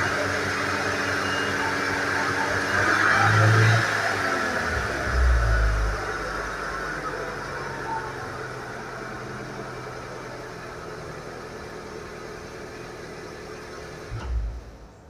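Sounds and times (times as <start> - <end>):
car engine and spinning wheels: 0.0 - 15.0.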